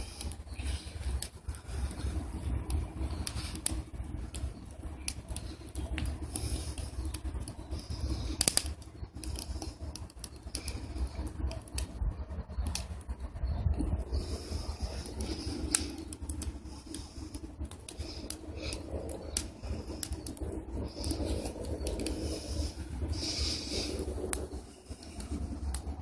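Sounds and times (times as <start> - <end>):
stove low rumble: 0.0 - 26.0
wood fire crackling: 0.0 - 26.0.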